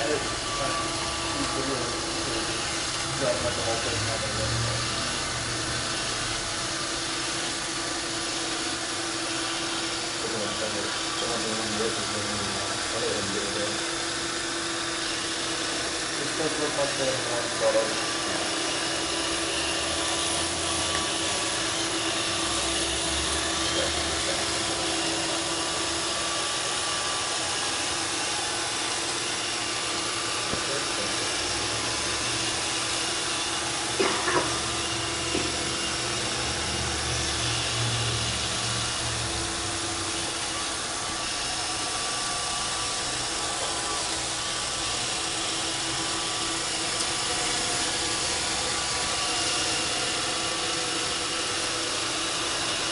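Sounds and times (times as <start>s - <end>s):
robot vacuum whirring: 0.0s - 52.9s.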